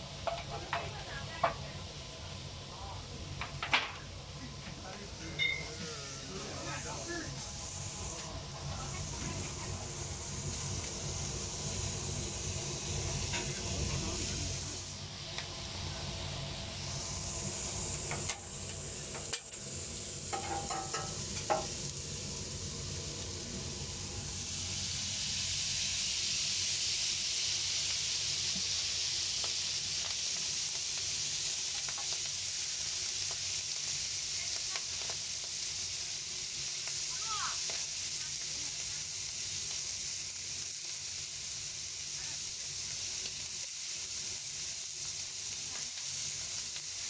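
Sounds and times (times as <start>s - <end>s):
food sizzling on a griddle: 0.0s - 47.0s.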